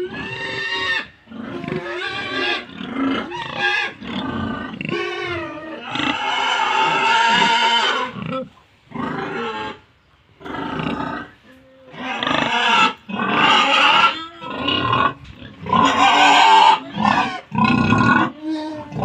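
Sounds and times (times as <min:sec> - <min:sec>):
pig squealing: 0:00.0 - 0:09.8, 0:10.4 - 0:19.0.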